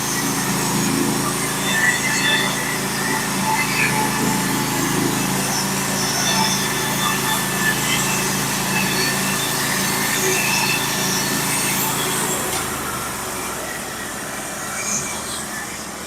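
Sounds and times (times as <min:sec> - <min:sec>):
sawmill engine cutting wood: 0:00.0 - 0:16.0.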